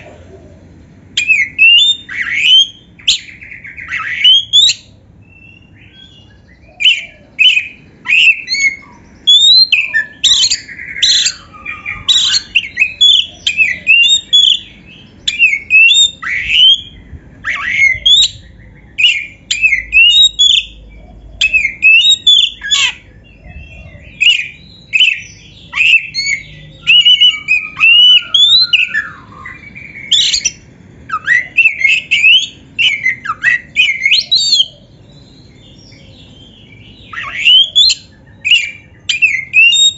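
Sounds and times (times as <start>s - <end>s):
bird singing whistles: 1.2s - 39.9s.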